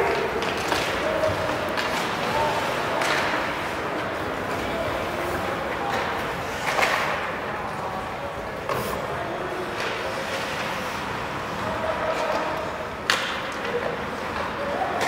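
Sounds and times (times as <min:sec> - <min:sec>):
echoing hall noise: 0:00.0 - 0:15.0
skates and sticks on ice: 0:00.0 - 0:15.0.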